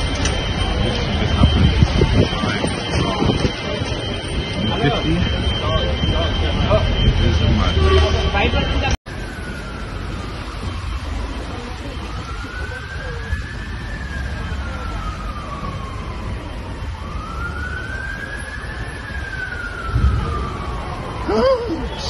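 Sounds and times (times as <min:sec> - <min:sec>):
city street rumble: 0:00.0 - 0:22.0
faint siren wailing: 0:00.0 - 0:22.0
wind: 0:00.0 - 0:22.0.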